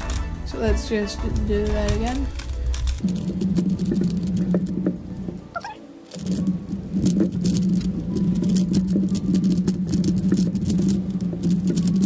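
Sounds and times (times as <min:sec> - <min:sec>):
speed cube clicking: 0:01.6 - 0:12.0.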